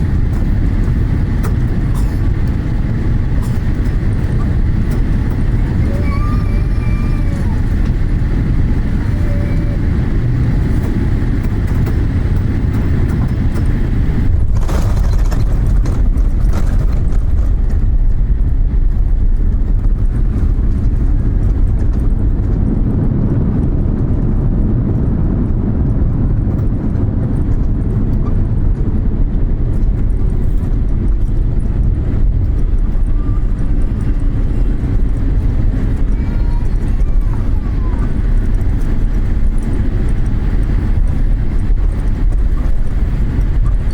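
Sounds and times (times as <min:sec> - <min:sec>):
jet engines rumbling: 0:00.0 - 0:43.9
wind buffeting microphone: 0:00.0 - 0:43.9.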